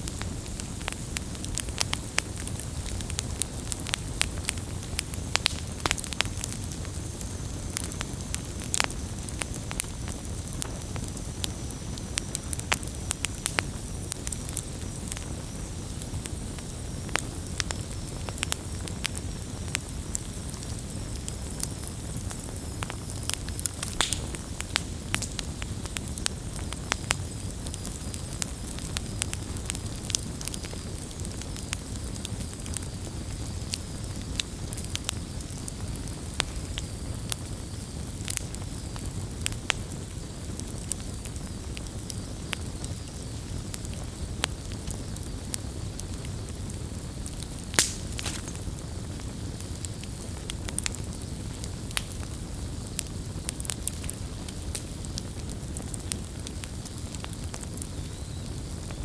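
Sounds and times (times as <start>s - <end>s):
campfire burning: 0.0s - 59.0s
wood crackling and popping: 0.0s - 59.0s.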